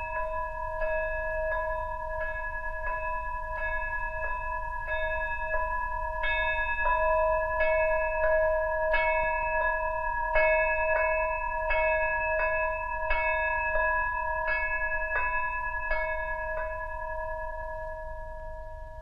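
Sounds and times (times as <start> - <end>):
small bell clanging: 0.0 - 19.0.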